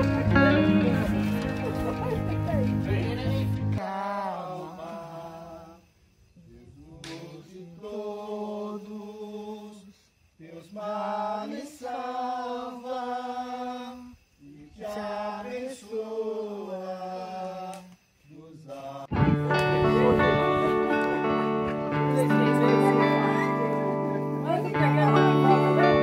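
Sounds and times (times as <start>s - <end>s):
person singing slow song: 0.0s - 2.9s, 3.8s - 26.0s.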